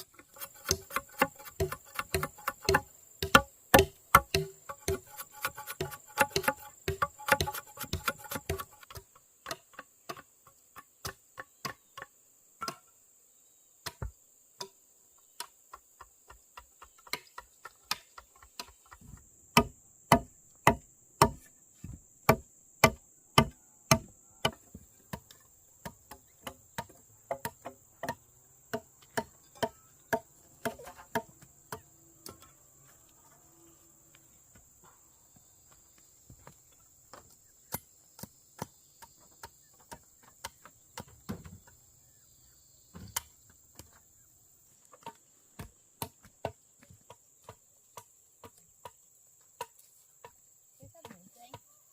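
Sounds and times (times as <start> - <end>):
high drone of insects: 0.0 - 51.9.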